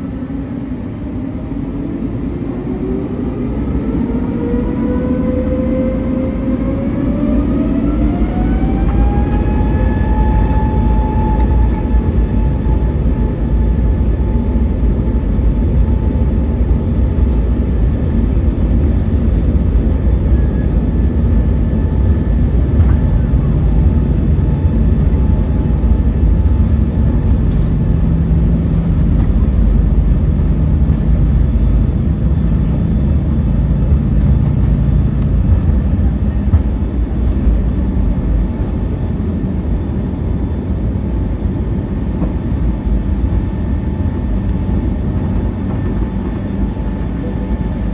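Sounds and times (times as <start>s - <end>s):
jet engines spooling up: 0.0s - 47.8s
takeoff roll rumble: 1.8s - 47.9s.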